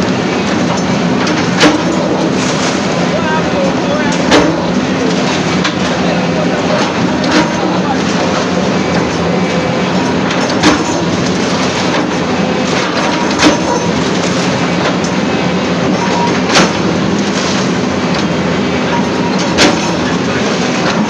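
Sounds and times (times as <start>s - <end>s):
loud rumbling noise: 0.0s - 21.0s.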